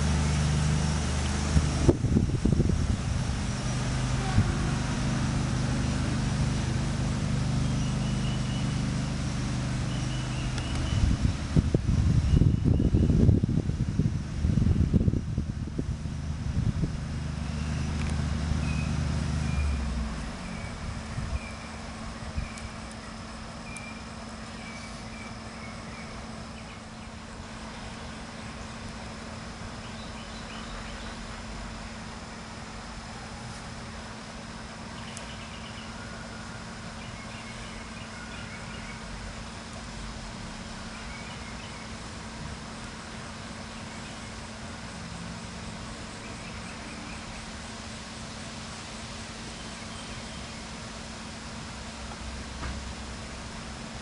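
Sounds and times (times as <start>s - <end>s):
low engine hum: 0.0s - 54.0s
steady outdoor hiss: 0.0s - 54.0s.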